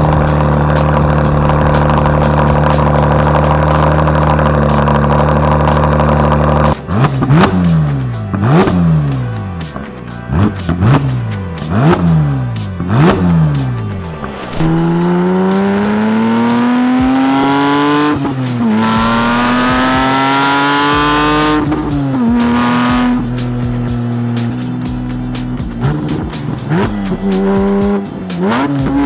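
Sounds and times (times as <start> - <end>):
sports car engine revving: 0.0 - 29.0.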